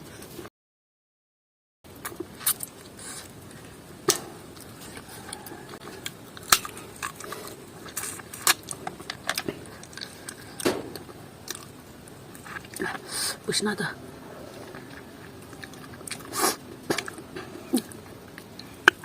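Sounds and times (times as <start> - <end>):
person chewing: 1.9 - 13.4, 14.2 - 19.0.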